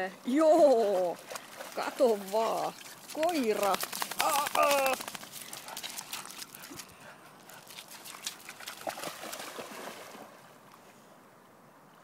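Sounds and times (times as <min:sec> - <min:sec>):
dog paws splashing in water: 0:00.3 - 0:10.6.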